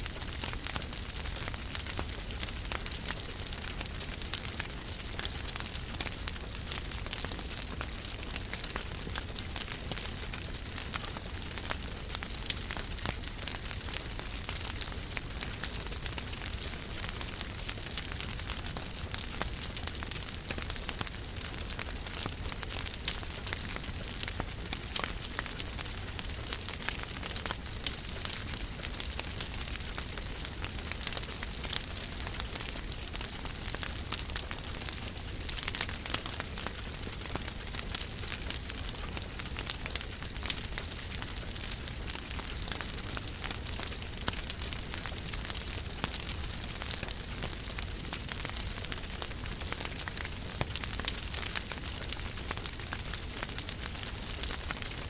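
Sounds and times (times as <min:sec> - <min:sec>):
wood fire crackling: 0:00.0 - 0:55.0
fire popping: 0:00.1 - 0:55.0.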